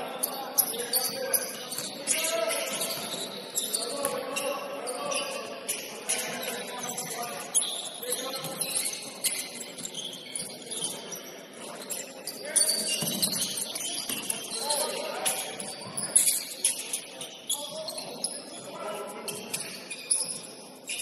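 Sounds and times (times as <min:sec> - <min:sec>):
players' voices: 0:00.0 - 0:21.0
shoe squeaks on court: 0:00.2 - 0:21.0.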